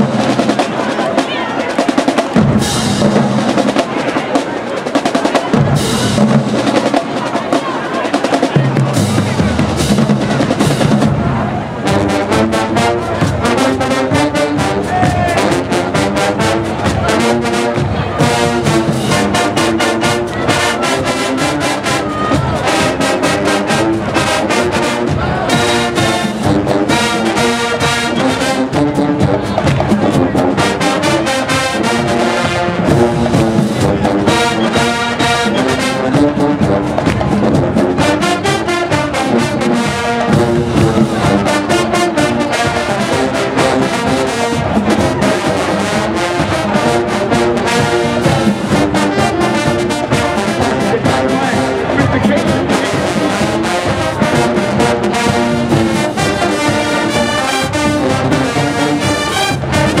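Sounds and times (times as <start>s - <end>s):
marching band playing: 0.0s - 60.0s
brass section playing tune: 8.4s - 60.0s.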